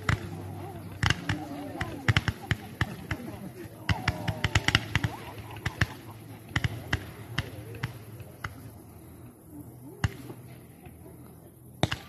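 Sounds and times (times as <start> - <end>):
distant fireworks popping: 0.0 - 12.0.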